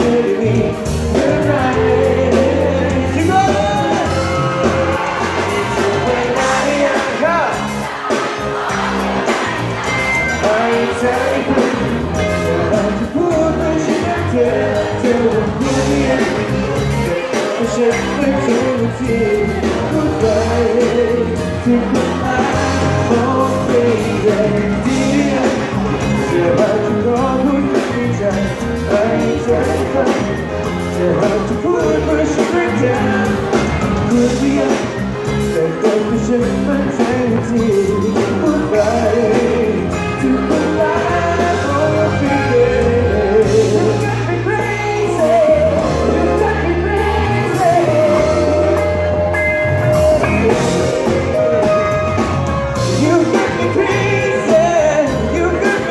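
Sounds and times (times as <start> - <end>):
backing band playing pop: 0.0 - 55.9
male singer: 0.0 - 55.9.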